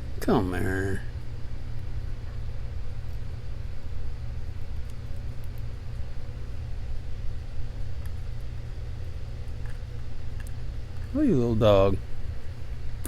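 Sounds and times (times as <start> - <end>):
low hum of machinery: 0.0 - 13.0.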